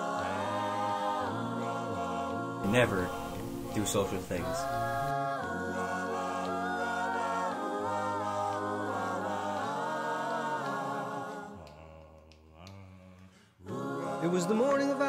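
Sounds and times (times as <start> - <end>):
wordless a cappella vocal harmony: 0.0 - 15.0.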